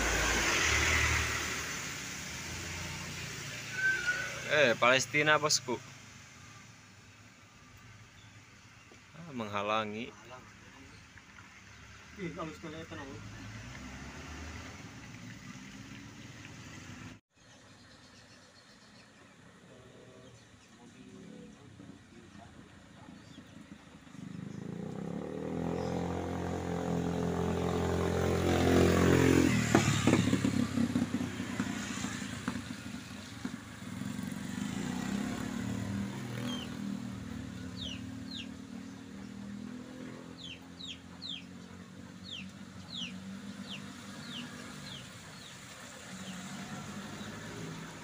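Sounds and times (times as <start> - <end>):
vehicle engine passing: 0.0 - 6.9, 10.3 - 17.2, 19.4 - 48.0.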